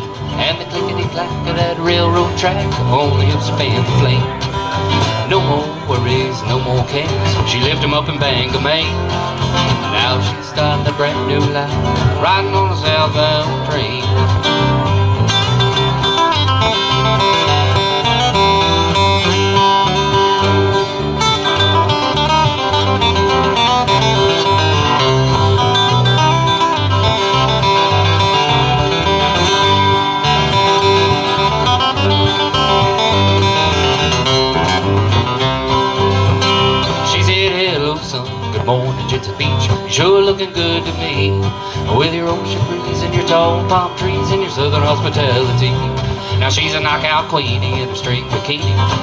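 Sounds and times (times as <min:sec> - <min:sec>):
bass pulse: 0:00.0 - 0:40.2
strummed acoustic guitars: 0:00.0 - 0:49.0.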